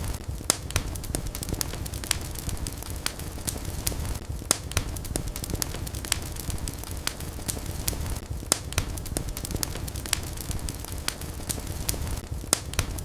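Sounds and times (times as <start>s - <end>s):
fire rumbling: 0.0s - 13.0s
logs crackling and popping: 0.0s - 13.0s.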